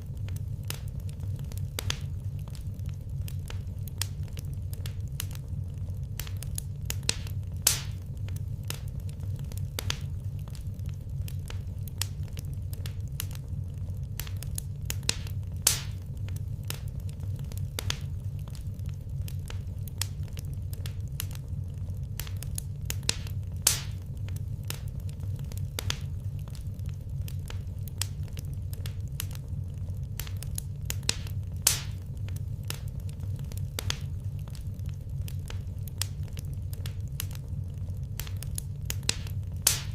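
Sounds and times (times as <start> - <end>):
low rumble: 0.0 - 39.9
wood fire crackling: 0.0 - 39.9.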